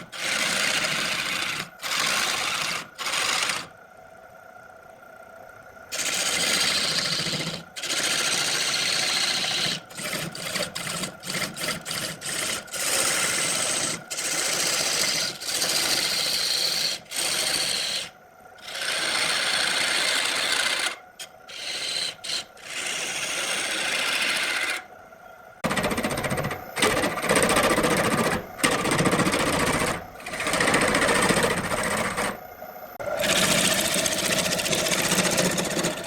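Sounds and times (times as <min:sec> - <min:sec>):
tool rasping on spinning wood: 0:00.0 - 0:03.7, 0:05.9 - 0:24.8, 0:25.6 - 0:32.4, 0:33.0 - 0:36.0
lathe hum: 0:00.0 - 0:03.8, 0:05.8 - 0:36.0.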